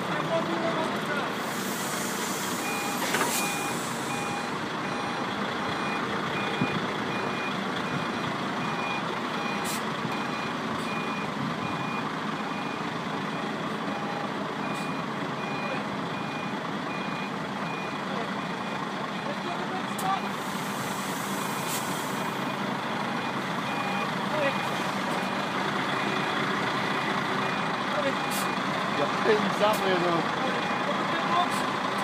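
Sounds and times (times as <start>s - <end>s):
truck engine running: 0.0s - 32.0s
truck reversing alarm beeping: 1.9s - 31.9s.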